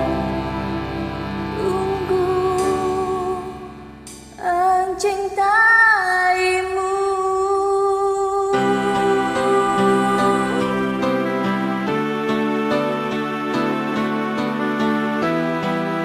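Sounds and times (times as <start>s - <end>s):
person singing a long note: 0.0s - 5.4s, 6.0s - 14.3s
karaoke backing track: 0.0s - 16.0s.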